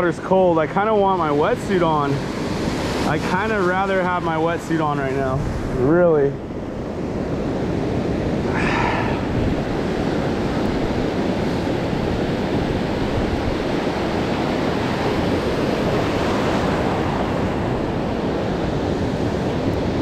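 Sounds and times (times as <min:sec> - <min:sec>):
ocean surf breaking: 0:00.0 - 0:20.0
wind buffeting microphone: 0:01.4 - 0:20.0.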